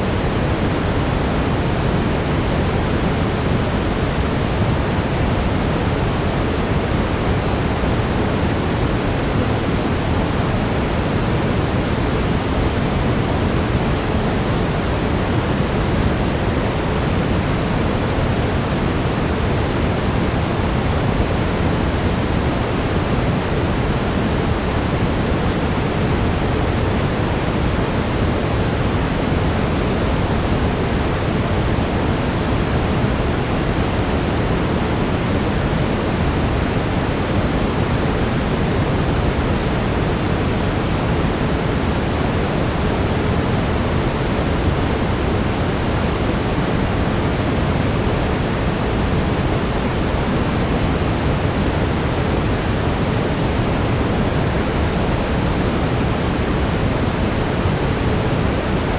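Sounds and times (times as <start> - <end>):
brown noise hiss: 0.0 - 58.9.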